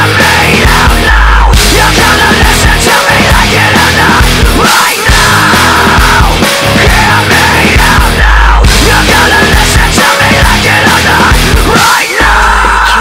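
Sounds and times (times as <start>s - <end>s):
loud hard rock music: 0.0s - 13.0s.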